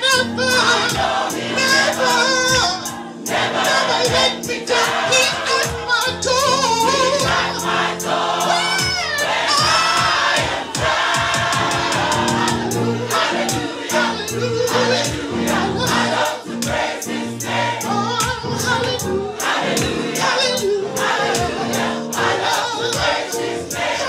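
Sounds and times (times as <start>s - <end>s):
gospel choir singing: 0.0s - 24.0s
held backing notes: 0.0s - 24.0s
steady beat: 0.4s - 24.0s.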